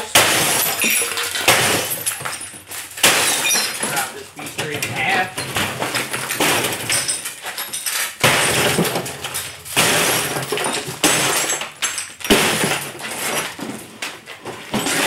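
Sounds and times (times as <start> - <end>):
television being smashed: 0.0 - 4.1, 5.4 - 13.9
glass breaking: 0.0 - 13.9, 14.6 - 15.0
debris clattering: 0.0 - 15.0.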